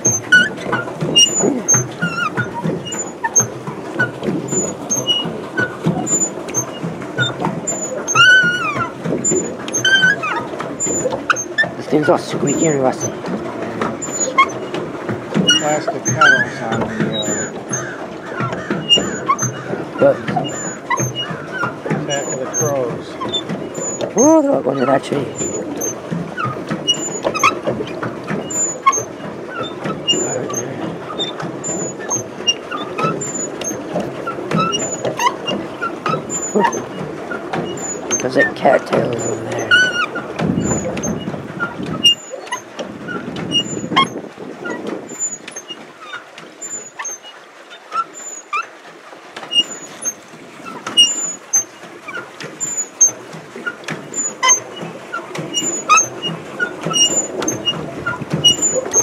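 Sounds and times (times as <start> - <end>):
pedal drive squeaking: 0.0 - 48.8, 49.4 - 59.0
steady water churning: 0.0 - 59.0.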